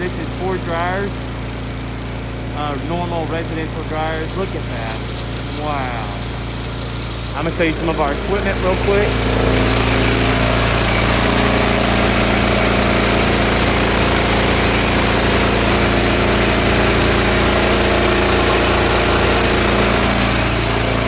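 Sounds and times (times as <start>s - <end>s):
vacuum and compressor unit running: 0.0s - 21.0s.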